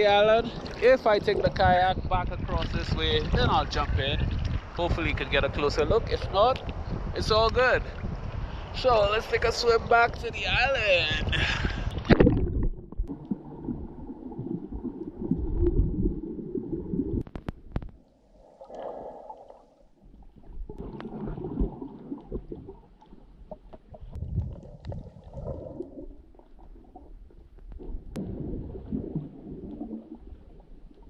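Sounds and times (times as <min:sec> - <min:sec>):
muffled underwater water rushing: 0:00.0 - 0:09.9, 0:11.2 - 0:31.0.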